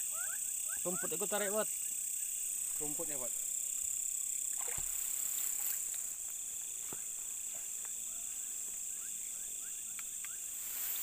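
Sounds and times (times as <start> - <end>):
crickets trilling: 0.0 - 11.0
faint insect clicks and chirps: 0.0 - 11.0.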